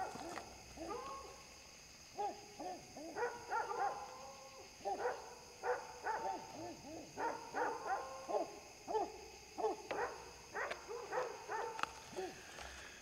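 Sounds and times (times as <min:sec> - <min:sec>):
dog barking: 0:00.0 - 0:01.4, 0:02.2 - 0:12.4.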